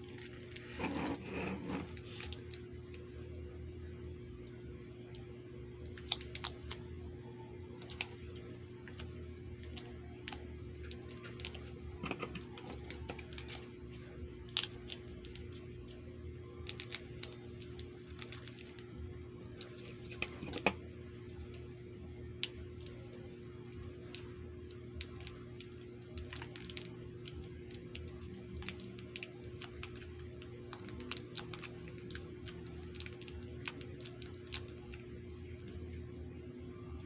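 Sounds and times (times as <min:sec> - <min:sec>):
candy wrappers crinkling: 0:00.0 - 0:02.7, 0:05.8 - 0:06.9, 0:07.7 - 0:13.8, 0:14.4 - 0:21.6, 0:22.4 - 0:35.8
low electrical hum: 0:00.0 - 0:37.0.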